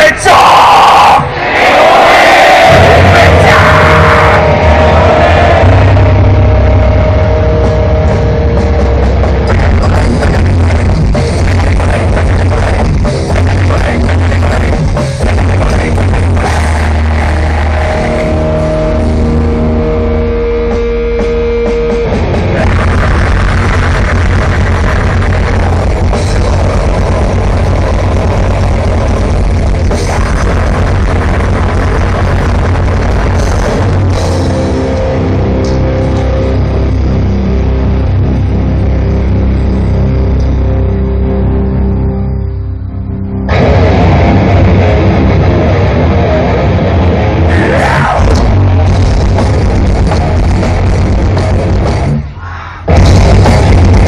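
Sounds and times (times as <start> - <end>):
loud live grindcore band: 0.0 - 41.4, 43.5 - 54.0.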